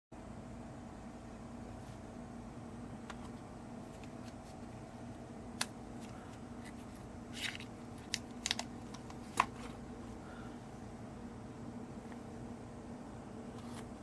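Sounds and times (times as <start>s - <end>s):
steady low hum: 0.2s - 14.0s.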